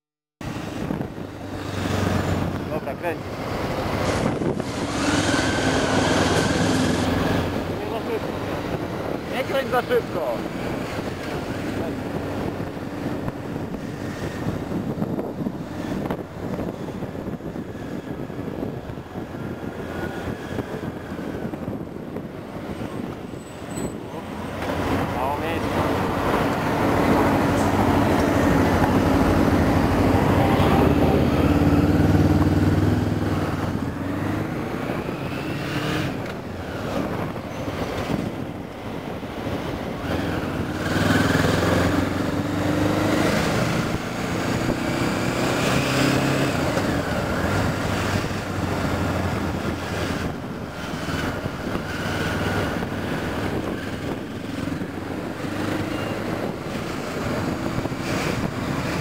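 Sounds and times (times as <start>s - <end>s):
motorcycle engine revving while riding: 0.5s - 59.0s.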